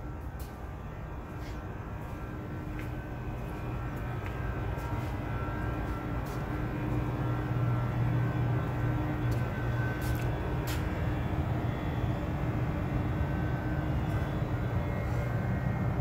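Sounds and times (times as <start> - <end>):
faint high whines: 0.0 - 16.0
machinery hum: 0.0 - 16.0.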